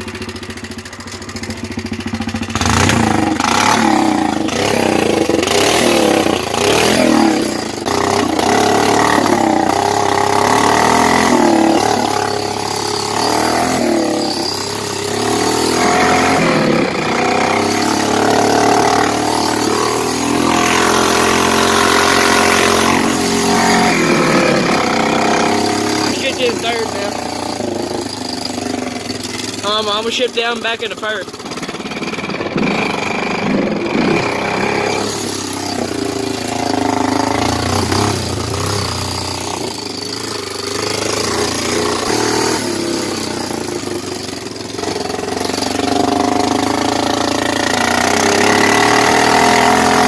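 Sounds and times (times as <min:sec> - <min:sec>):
atv engine revving: 0:00.0 - 0:50.0.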